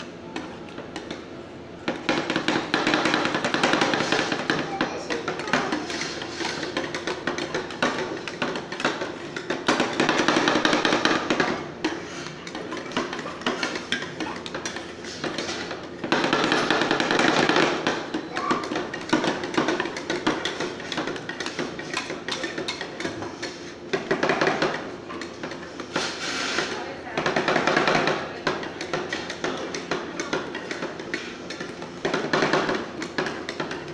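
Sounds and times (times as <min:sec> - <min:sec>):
metal spatulas chopping and scraping: 0:01.9 - 0:33.9.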